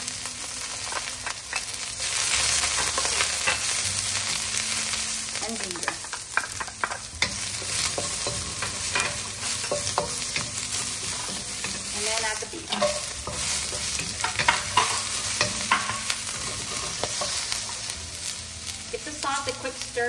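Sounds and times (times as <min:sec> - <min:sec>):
food sizzling in oil: 0:00.0 - 0:20.0
spatula scraping and clacking wok: 0:00.6 - 0:04.9, 0:05.5 - 0:19.6.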